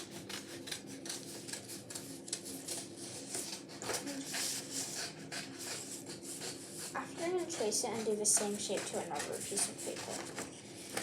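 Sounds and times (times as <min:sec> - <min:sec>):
paper rustling and scraping: 0:00.0 - 0:11.0.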